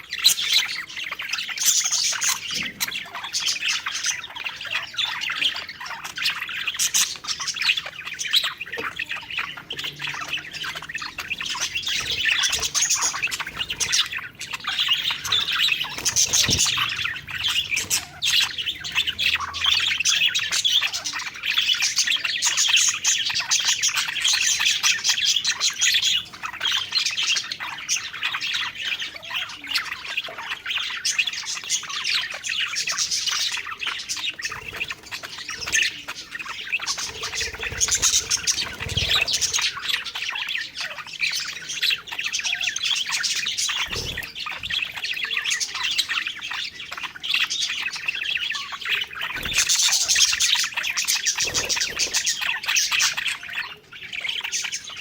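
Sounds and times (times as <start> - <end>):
bird squawks: 0.0 - 55.0
budgerigars chirping and chattering: 0.0 - 55.0.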